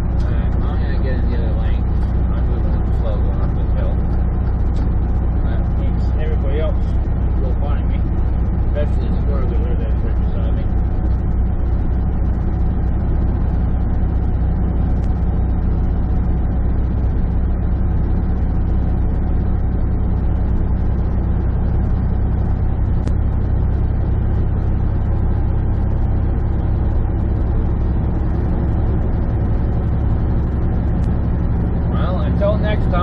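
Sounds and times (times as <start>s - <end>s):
diesel truck engine: 0.0s - 33.0s
tyre and road noise: 0.0s - 33.0s.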